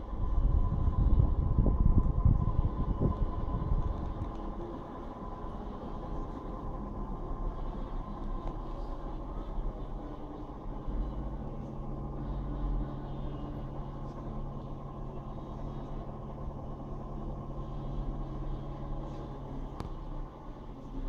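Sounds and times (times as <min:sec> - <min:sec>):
faint steady hum: 0:00.0 - 0:21.0
low background rumble: 0:00.0 - 0:21.0.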